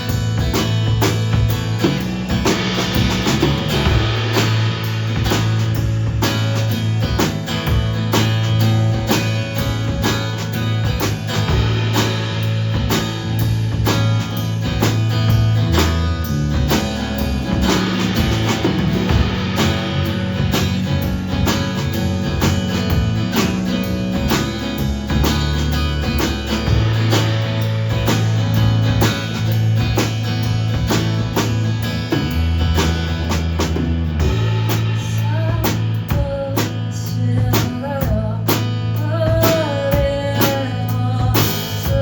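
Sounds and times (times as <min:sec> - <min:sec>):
bass line: 0:00.0 - 0:42.0
drum kit beat: 0:00.0 - 0:42.0
strummed guitar: 0:00.0 - 0:42.0.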